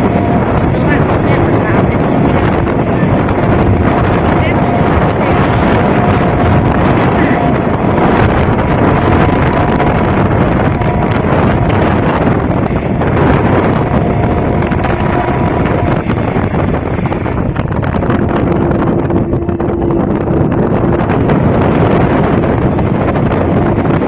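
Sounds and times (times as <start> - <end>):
heavy wind buffeting microphone: 0.0 - 24.0
kite flutes steady tones: 0.0 - 24.0.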